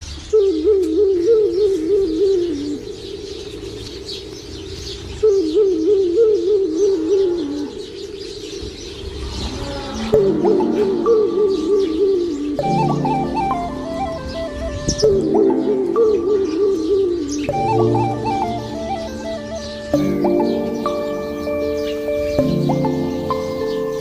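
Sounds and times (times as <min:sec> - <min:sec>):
faint high bird chirping: 0:00.0 - 0:24.0
bird low wavering call: 0:00.3 - 0:24.0.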